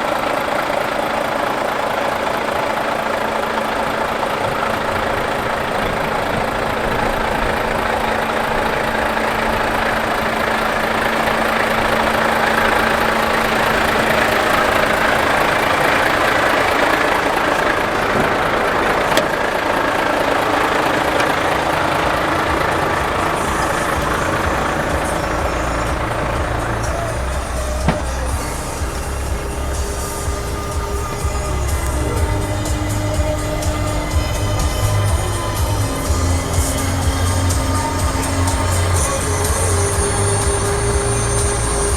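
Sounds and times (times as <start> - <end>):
diesel truck engine idling: 0.0 - 41.9.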